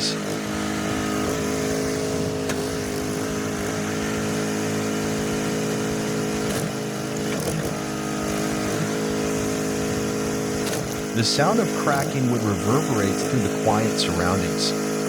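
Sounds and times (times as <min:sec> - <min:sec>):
log splitter engine running: 0:00.0 - 0:15.0.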